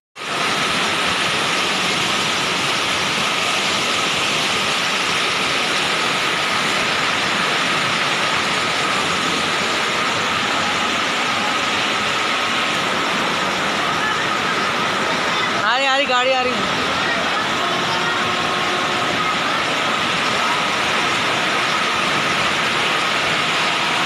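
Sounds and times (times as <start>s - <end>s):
floodwater rushing: 0.2s - 24.0s.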